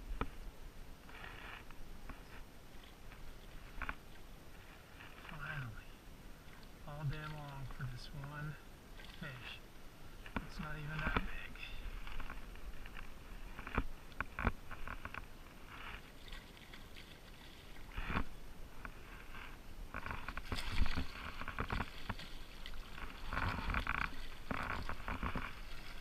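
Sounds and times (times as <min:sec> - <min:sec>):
water sloshing and splashing: 0:01.0 - 0:26.0.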